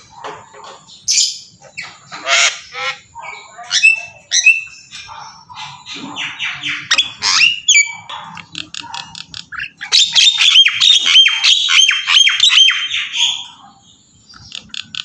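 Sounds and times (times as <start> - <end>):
bird squawks: 0.0 - 15.0.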